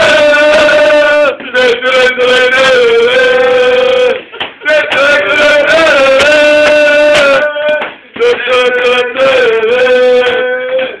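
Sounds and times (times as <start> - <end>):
loud singing in held notes: 0.0 - 11.0.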